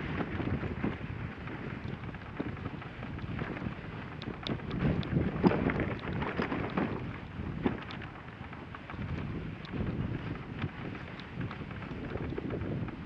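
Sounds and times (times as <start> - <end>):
sled running over snow: 0.0 - 13.0
wind on microphone: 0.0 - 13.0
small clicks and knocks: 1.7 - 13.0.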